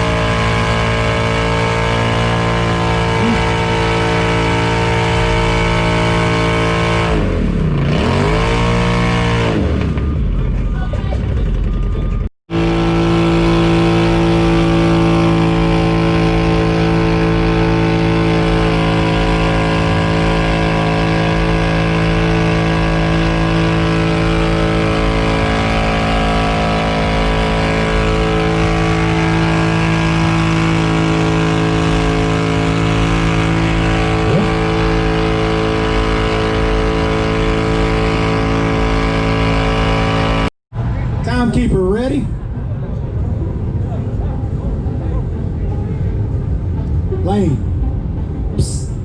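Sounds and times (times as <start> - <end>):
atv engine running hard: 0.0 - 41.2.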